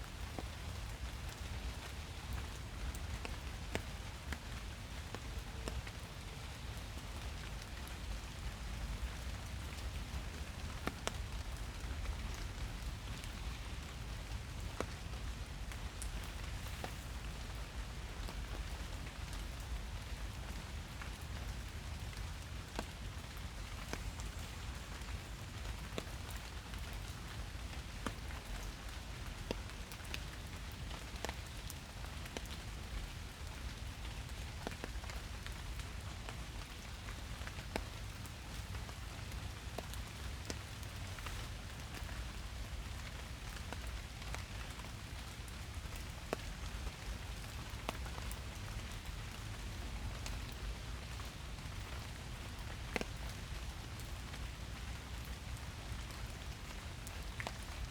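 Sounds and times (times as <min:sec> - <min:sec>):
rain hiss: 0:00.0 - 0:57.9.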